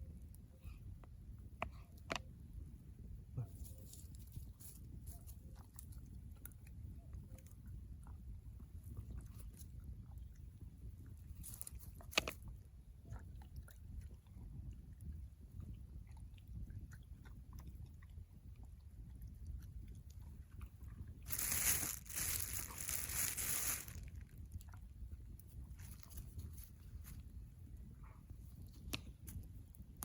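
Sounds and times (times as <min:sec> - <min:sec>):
low fire rumble: 0:02.3 - 0:30.0.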